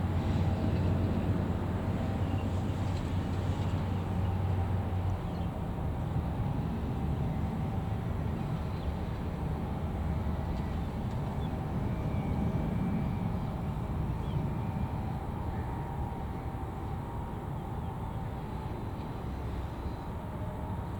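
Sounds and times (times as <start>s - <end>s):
faint jet engine whine: 0.0s - 20.9s.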